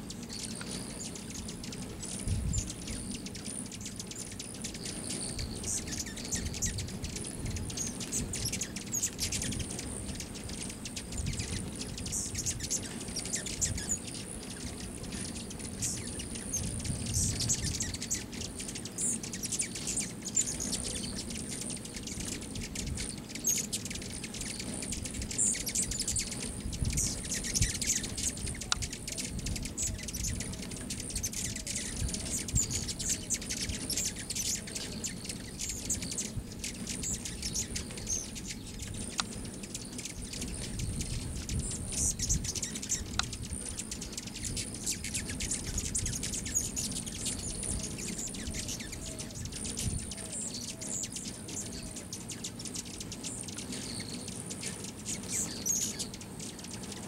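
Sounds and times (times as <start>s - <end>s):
hummingbirds chirping: 0.0s - 57.0s.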